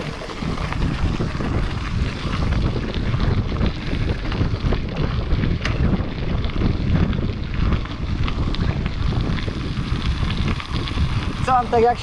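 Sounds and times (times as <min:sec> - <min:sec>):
bike rattling: 0:00.0 - 0:12.0
wind buffeting microphone: 0:00.0 - 0:12.0.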